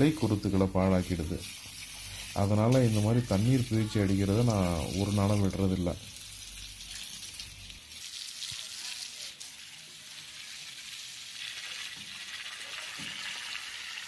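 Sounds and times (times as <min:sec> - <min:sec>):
hose water spraying and splashing: 0:00.0 - 0:14.0.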